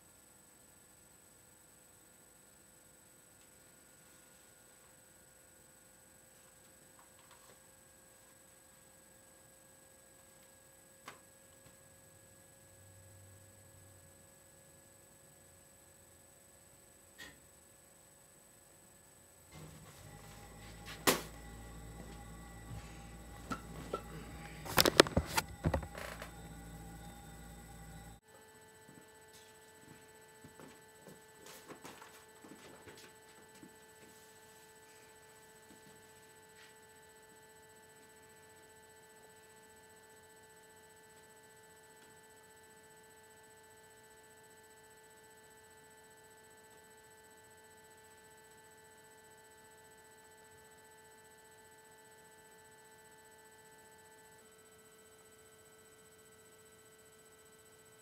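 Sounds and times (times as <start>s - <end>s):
faint electrical hum: 0.0s - 58.0s.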